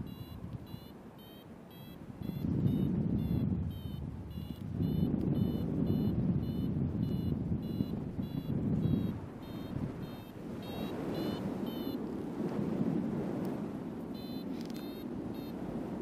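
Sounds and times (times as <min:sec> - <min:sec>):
variometer beeping: 0:00.0 - 0:12.1, 0:14.1 - 0:15.6
wind rushing over microphone: 0:00.0 - 0:16.0.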